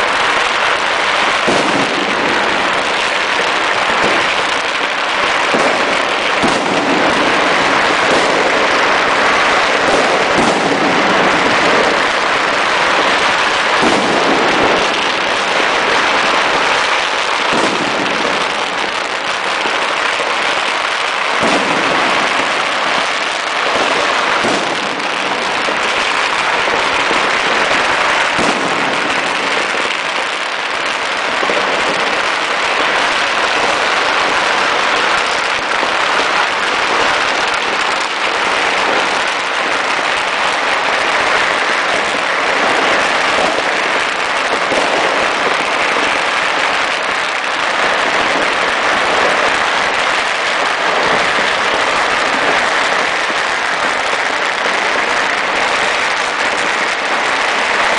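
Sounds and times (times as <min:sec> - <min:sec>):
firecrackers and fireworks crackling: 0:00.0 - 0:57.9.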